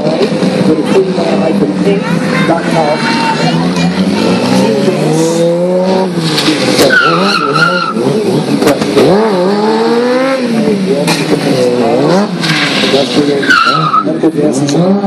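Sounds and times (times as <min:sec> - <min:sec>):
motorcycle engine revving: 0:00.0 - 0:15.0
tyre squealing on asphalt: 0:02.0 - 0:15.0.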